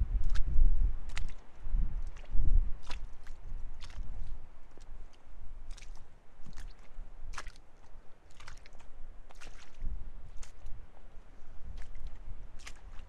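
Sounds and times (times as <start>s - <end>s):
footsteps squelching in mud: 0.2s - 13.0s.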